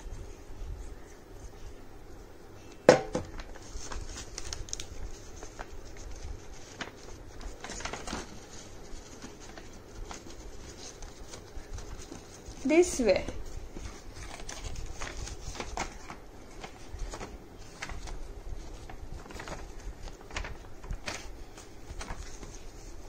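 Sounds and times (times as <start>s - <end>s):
soft paper rustling: 0.0s - 23.0s
paper being handled: 2.6s - 23.0s.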